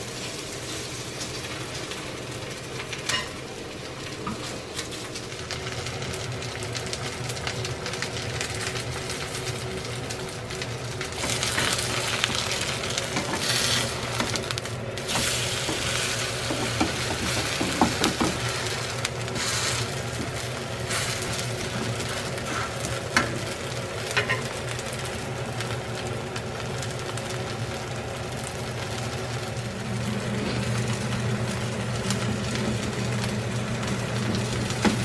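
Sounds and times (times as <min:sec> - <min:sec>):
pancake sizzling in oil: 0:00.0 - 0:35.0
steady low hum: 0:01.4 - 0:35.0.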